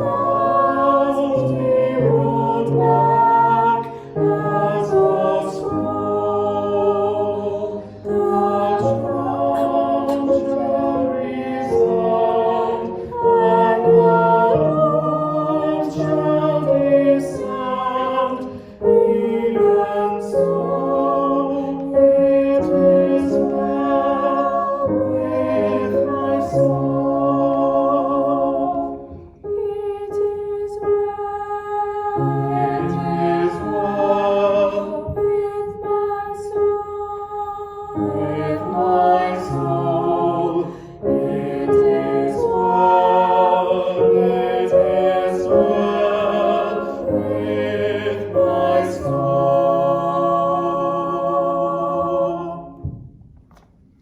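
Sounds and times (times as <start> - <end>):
slow church hymn music: 0.0 - 54.0.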